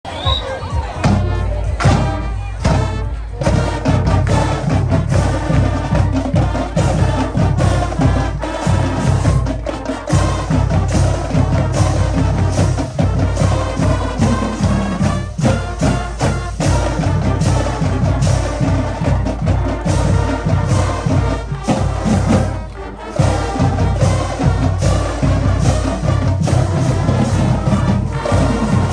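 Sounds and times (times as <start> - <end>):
drums beating: 0.0 - 28.9
marching band playing: 0.1 - 28.9.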